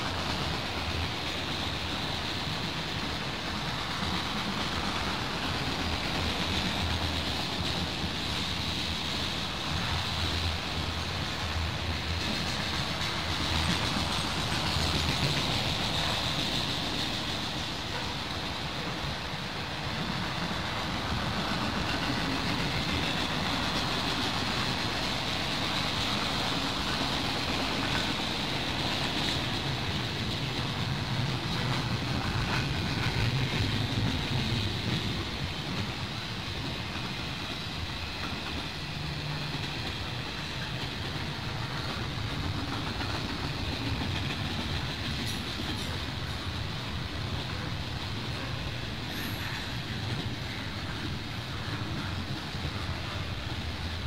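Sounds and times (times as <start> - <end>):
train wheels rumbling and rattling: 0.0 - 54.0.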